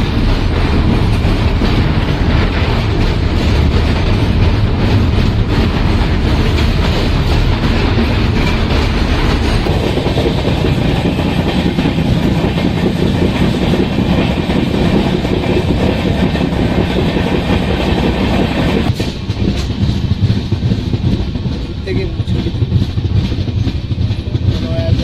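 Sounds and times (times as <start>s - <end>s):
train rumbling at speed: 0.0s - 25.0s
wheels clattering on rails: 0.0s - 25.0s.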